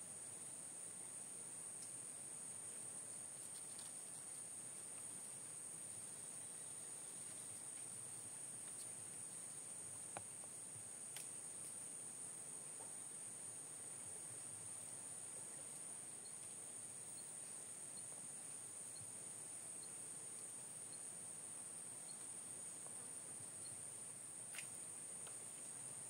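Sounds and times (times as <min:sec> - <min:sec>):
forest insects droning: 0:00.0 - 0:26.0.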